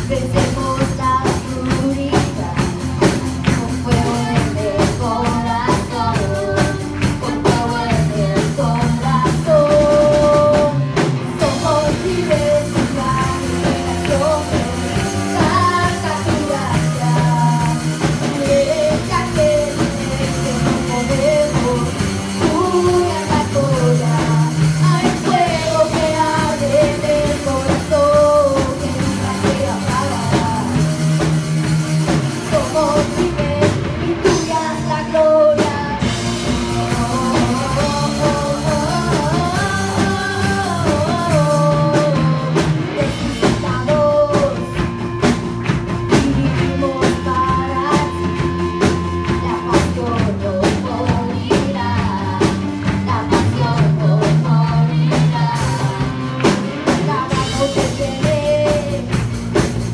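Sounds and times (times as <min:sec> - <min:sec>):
woman singing: 0:00.0 - 0:31.3, 0:32.3 - 0:59.8
live band playing: 0:00.0 - 0:59.9
steady drum beat: 0:00.0 - 0:59.9.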